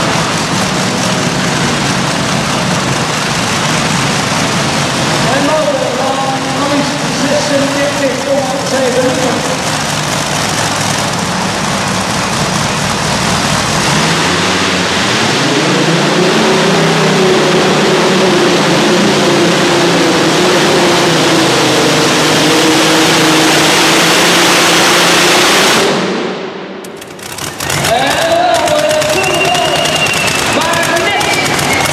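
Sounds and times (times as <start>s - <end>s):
tractor racing engine revving: 0.0s - 31.9s.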